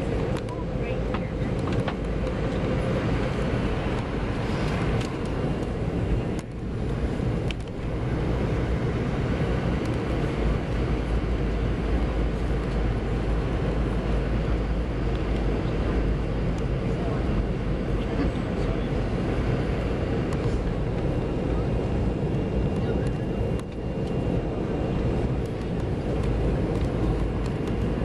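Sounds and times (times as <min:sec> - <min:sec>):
airflow rushing over fuselage: 0:00.0 - 0:28.0
jet engines droning: 0:00.0 - 0:28.0.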